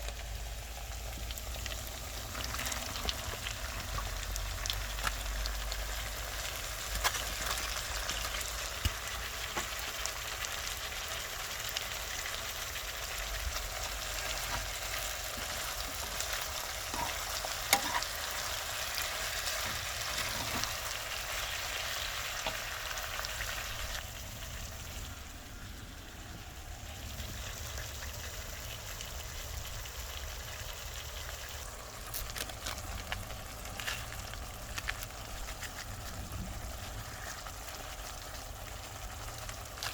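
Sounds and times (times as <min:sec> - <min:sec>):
chicken sizzling in a pan: 0:00.0 - 0:39.9.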